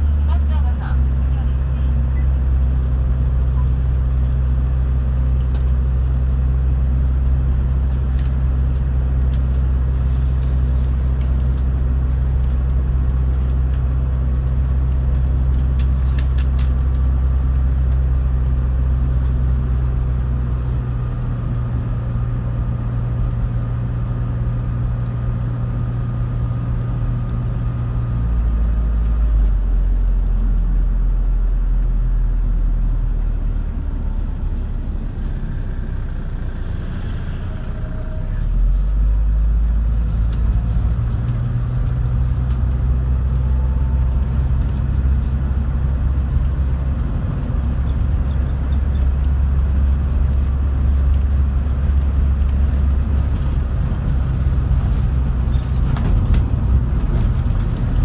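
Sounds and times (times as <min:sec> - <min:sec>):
van engine and road drone: 0:00.0 - 0:58.0.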